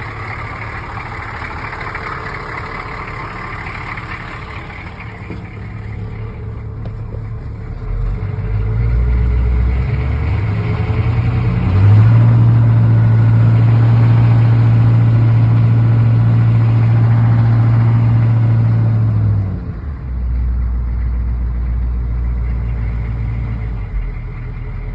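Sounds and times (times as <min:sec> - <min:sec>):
diesel engine idling and revving: 0:00.0 - 0:24.9.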